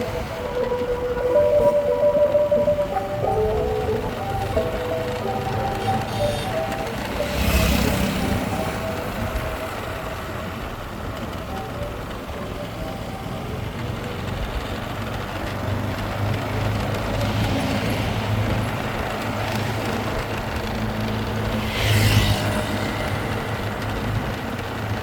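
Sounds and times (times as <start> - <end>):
motorcycle engine and road noise: 0.0 - 25.0.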